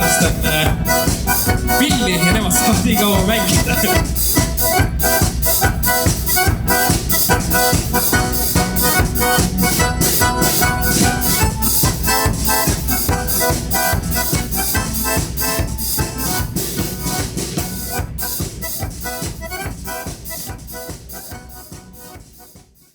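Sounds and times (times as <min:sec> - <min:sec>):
bass: 0:00.0 - 0:22.8
accordion: 0:00.0 - 0:22.9
steady drum beat: 0:00.0 - 0:22.9.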